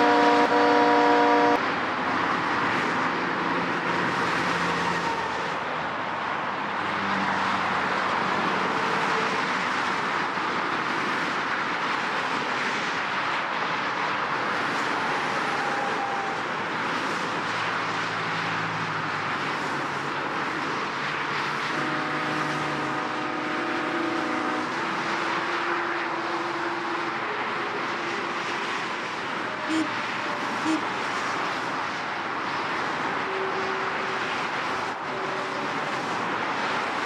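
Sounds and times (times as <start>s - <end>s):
heavy road traffic: 0.0s - 37.0s.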